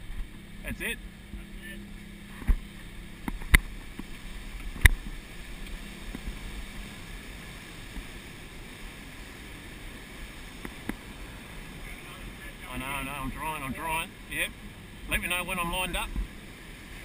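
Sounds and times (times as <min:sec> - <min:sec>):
boat engine rumble: 0:00.0 - 0:17.0
water and wind rushing: 0:00.0 - 0:17.0.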